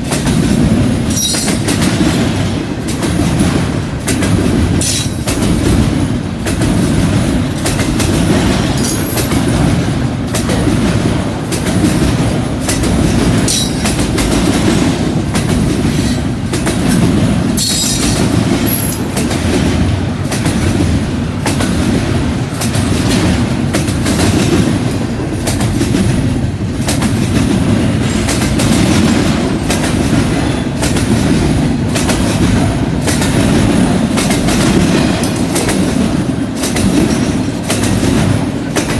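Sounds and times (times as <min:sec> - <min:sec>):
freight train rumbling: 0:00.0 - 0:38.9
wheels clicking over rail joints: 0:00.0 - 0:38.9.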